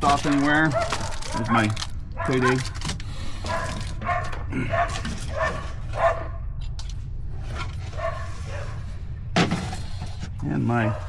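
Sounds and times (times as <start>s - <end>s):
steady low hum: 1.3s - 11.0s.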